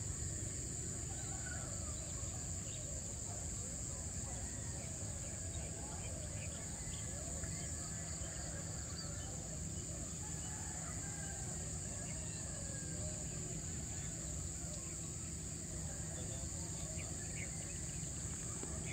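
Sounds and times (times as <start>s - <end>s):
high-pitched insect chorus: 0.0s - 18.9s.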